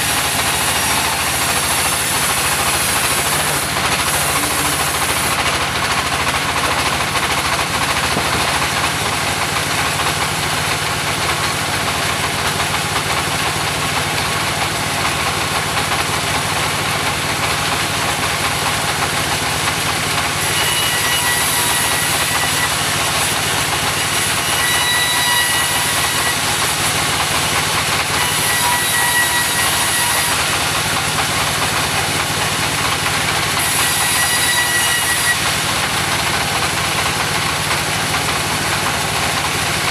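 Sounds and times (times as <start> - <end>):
sawmill engine sawing log: 0.0 - 39.9.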